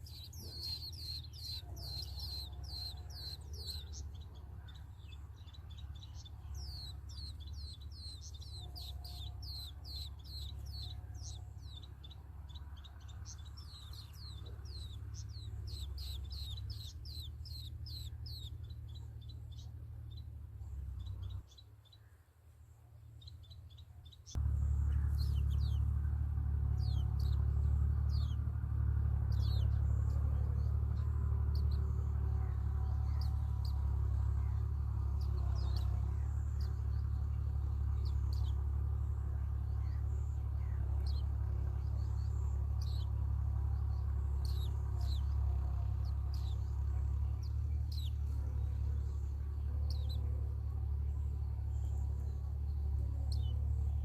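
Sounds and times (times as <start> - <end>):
nestling birds begging chirps: 0.0 - 54.0
steady low hum: 0.0 - 54.0.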